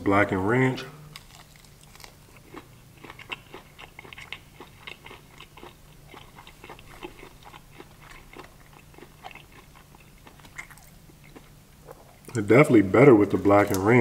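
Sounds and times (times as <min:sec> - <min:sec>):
person chewing crunchy food: 0:01.0 - 0:12.4.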